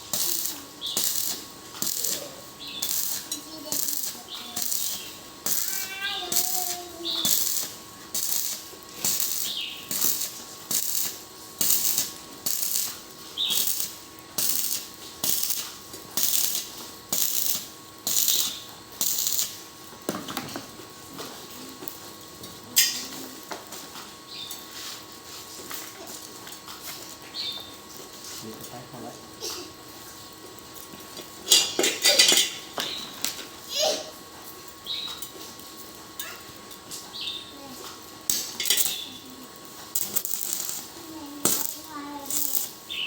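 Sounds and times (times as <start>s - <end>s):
welding arc crackling: 0.0s - 43.0s.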